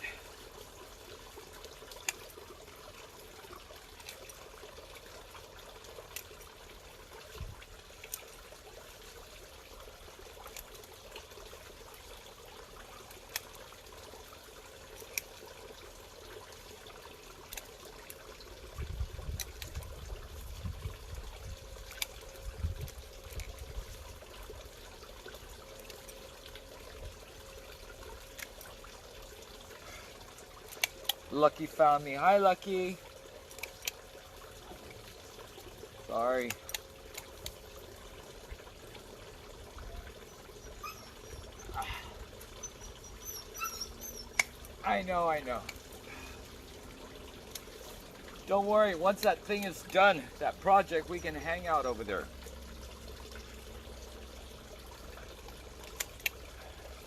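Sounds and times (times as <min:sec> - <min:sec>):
bubbling trickling water: 0:00.0 - 0:57.0.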